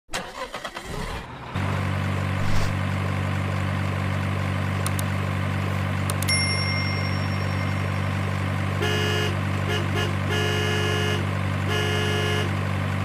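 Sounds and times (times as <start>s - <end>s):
truck engine idling: 0.1s - 13.0s.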